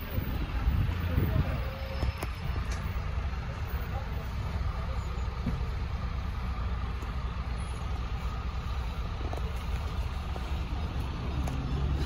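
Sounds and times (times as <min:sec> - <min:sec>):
low rumble of road vehicles: 0:00.0 - 0:12.0.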